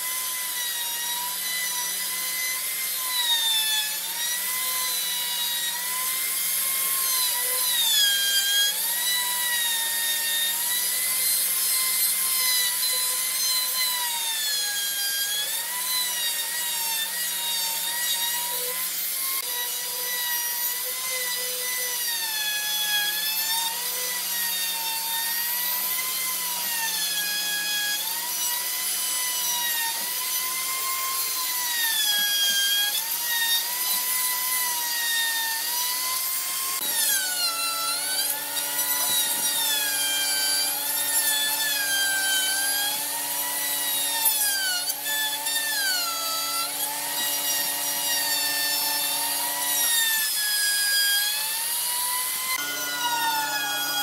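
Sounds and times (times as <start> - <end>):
router whining while cutting wood: 0.0 - 54.0.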